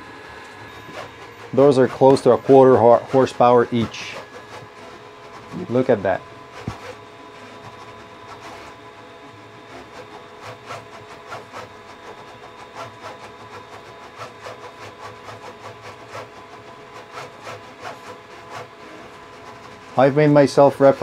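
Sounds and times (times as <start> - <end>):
motor and belt noise surges: 0.0 - 21.0
printer motors whining: 0.0 - 21.0.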